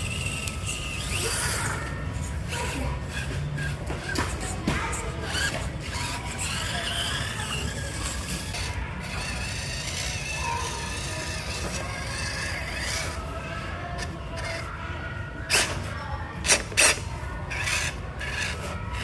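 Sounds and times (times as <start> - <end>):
small electric motor whining: 0.0 - 14.8, 16.4 - 19.0.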